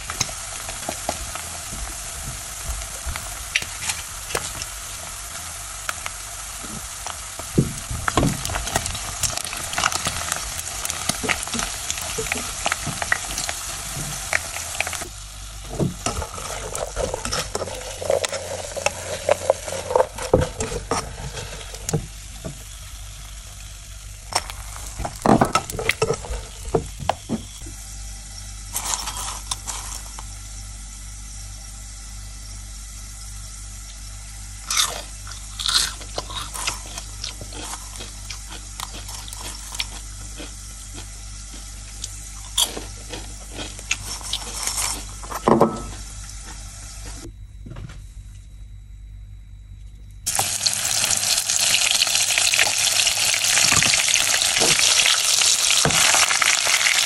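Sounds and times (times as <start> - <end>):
chicken skin sizzling in oil: 0.0 - 47.3, 50.2 - 57.0.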